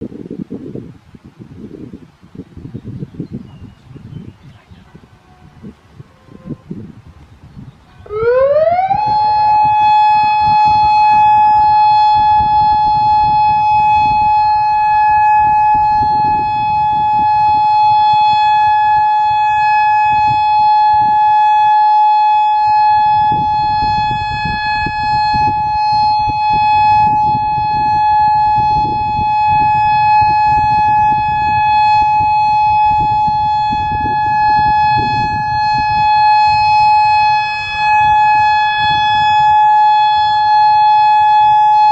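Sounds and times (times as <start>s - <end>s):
outdoor warning siren: 4.5s - 41.9s.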